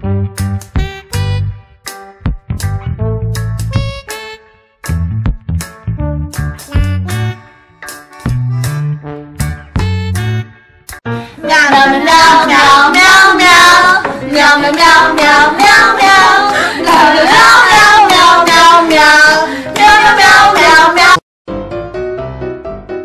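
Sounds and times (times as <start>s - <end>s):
music: 0.0s - 23.0s.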